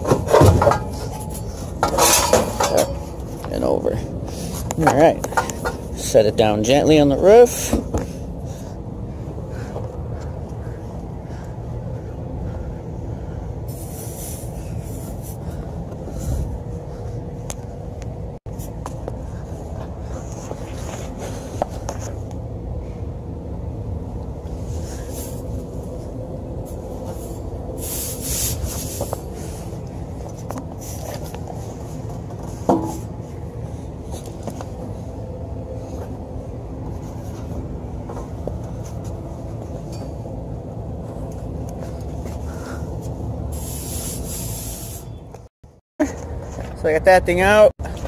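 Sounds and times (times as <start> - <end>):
machinery hum: 0.0 - 48.0.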